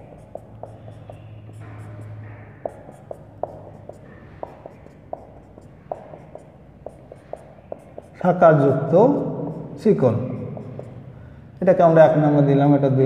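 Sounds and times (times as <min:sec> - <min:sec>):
marker writing on whiteboard: 0:00.0 - 0:11.3.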